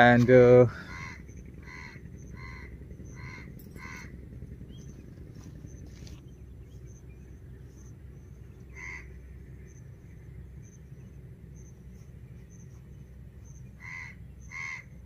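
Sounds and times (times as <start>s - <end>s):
bird calling: 0.0s - 11.2s, 12.0s - 15.0s.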